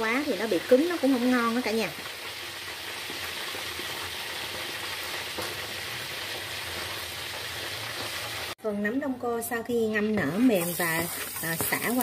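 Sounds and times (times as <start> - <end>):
pot boiling and bubbling: 0.0 - 12.0.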